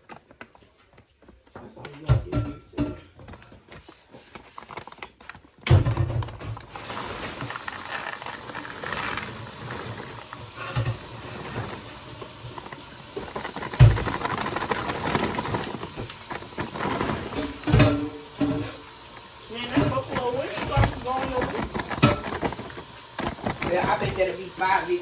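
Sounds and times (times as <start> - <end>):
popcorn bag rustling and hissing: 3.3 - 25.0.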